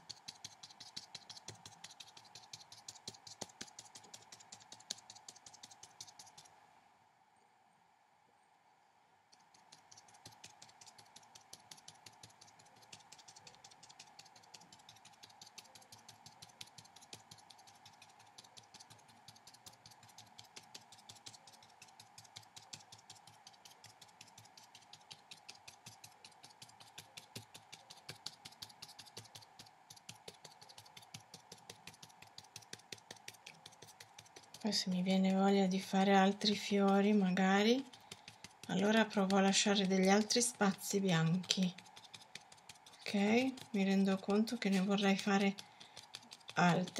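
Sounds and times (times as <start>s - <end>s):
brush tapping on paper: 0.0s - 6.5s, 9.3s - 46.9s
faint steady hum: 0.0s - 46.9s.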